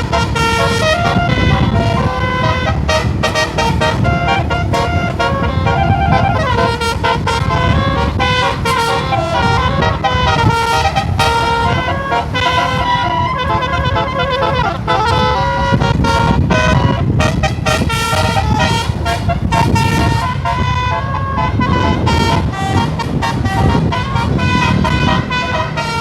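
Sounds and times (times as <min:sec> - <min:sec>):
bus engine rumble: 0:00.0 - 0:26.0
multi-tone air horns playing tune: 0:00.0 - 0:26.0.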